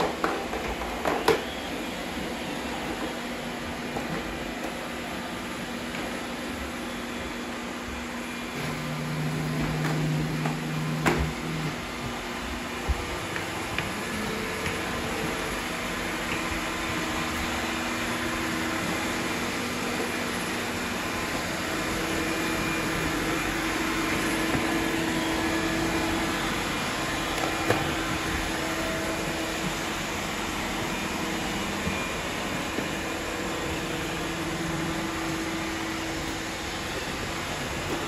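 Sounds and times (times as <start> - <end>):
robot vacuums whirring: 0.0 - 38.0.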